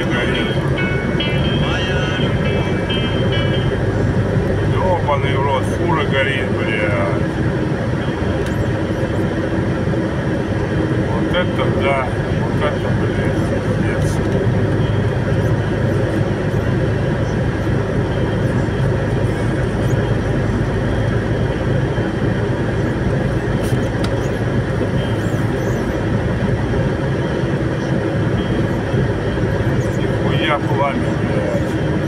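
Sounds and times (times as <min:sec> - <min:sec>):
vehicle engine and tyre rumble: 0:00.0 - 0:32.0.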